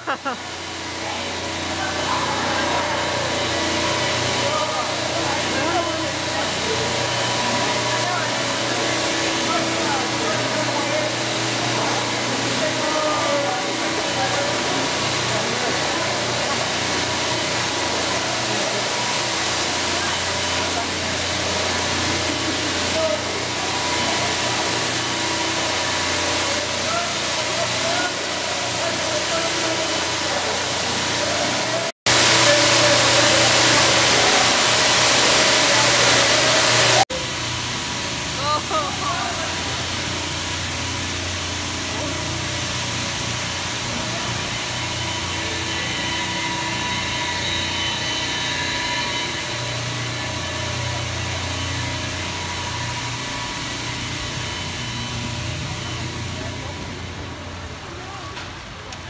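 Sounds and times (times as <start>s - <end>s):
constant machinery hum: 0.0s - 59.0s
machinery hiss: 0.1s - 59.0s.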